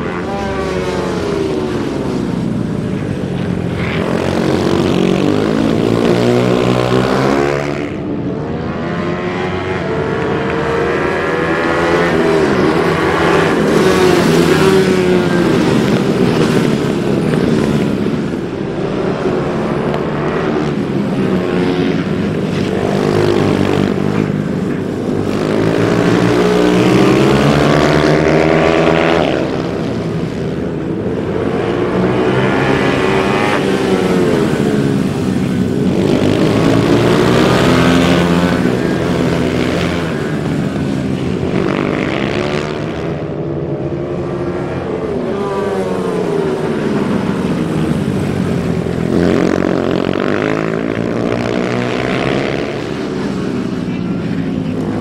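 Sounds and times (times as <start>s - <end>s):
minibike engines revving past: 0.0s - 55.0s.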